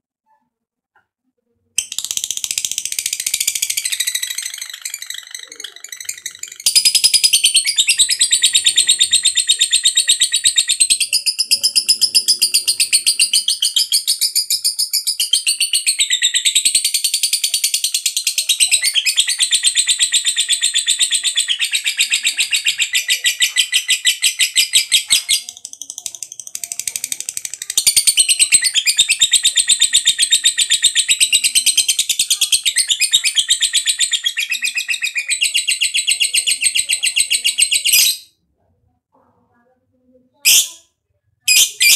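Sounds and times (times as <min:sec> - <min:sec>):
bird chattering trill: 0:01.8 - 0:38.3.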